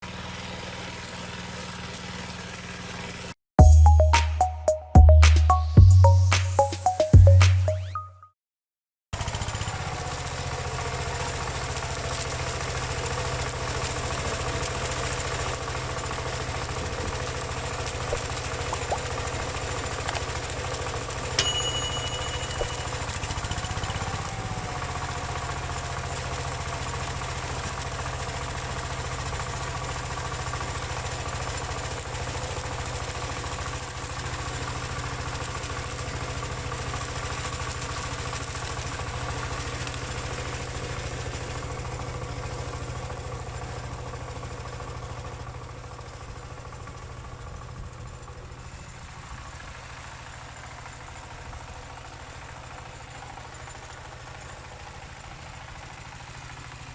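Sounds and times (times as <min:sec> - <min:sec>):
tractor diesel engine running: 0:09.2 - 0:21.3, 0:22.9 - 0:56.9.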